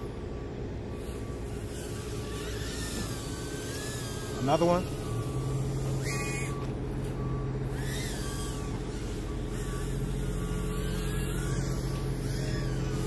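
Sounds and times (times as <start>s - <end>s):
drone motors whining: 0.0s - 13.0s
reversing alarm beeping: 0.0s - 13.0s
vehicle engine hum: 0.0s - 13.0s.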